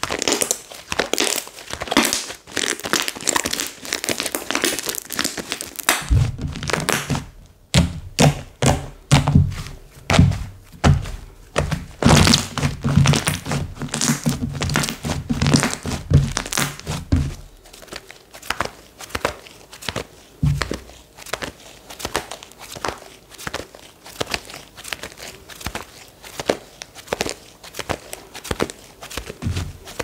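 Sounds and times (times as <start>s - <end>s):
hands squeezing slime: 0.0s - 30.0s.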